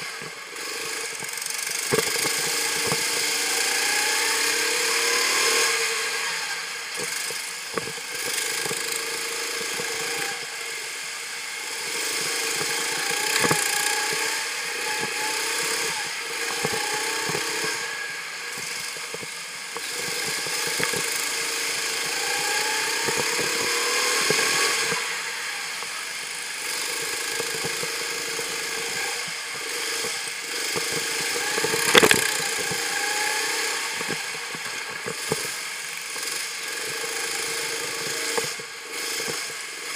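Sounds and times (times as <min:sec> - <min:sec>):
kart knocks and rattles: 0:00.0 - 0:03.9, 0:07.0 - 0:10.2, 0:12.1 - 0:25.1, 0:25.8 - 0:39.9
go-kart engine revving: 0:00.0 - 0:39.9.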